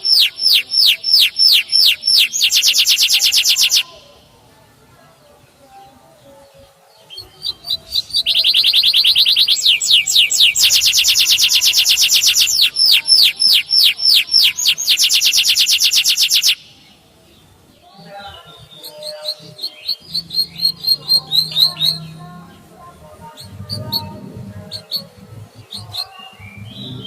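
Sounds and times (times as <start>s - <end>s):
canary singing: 0.0s - 4.4s, 5.6s - 27.0s.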